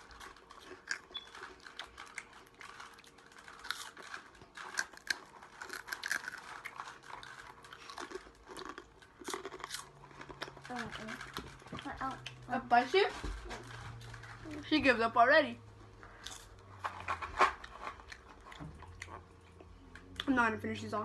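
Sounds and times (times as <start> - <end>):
chewing crunchy chips: 0.0 - 12.5, 13.1 - 14.7, 15.8 - 20.4.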